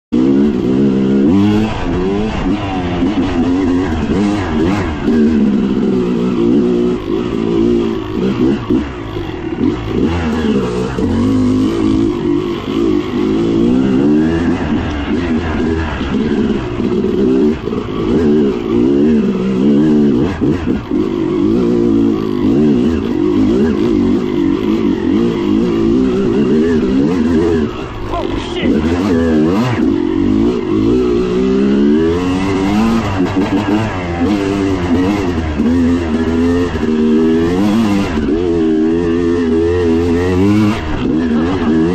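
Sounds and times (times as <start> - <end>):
dirt bike engine revving: 0.1 - 41.9.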